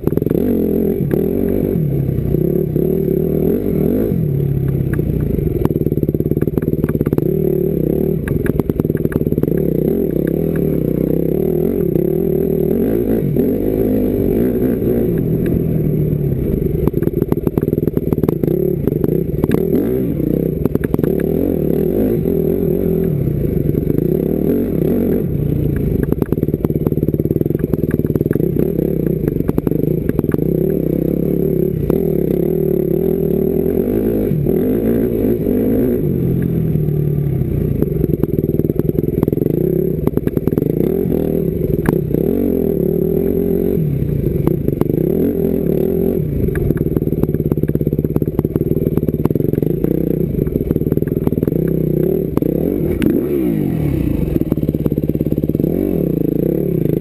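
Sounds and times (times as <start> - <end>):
knocks and rattles from bike: 0.0 - 57.0
motorcycle engine revving: 0.0 - 57.0.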